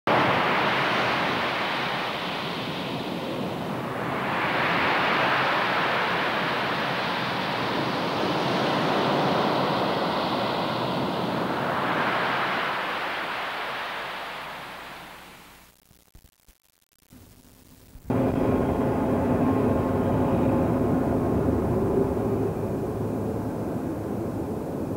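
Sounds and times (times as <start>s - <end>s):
rushing surf-like noise: 0.1s - 15.6s, 18.1s - 24.9s.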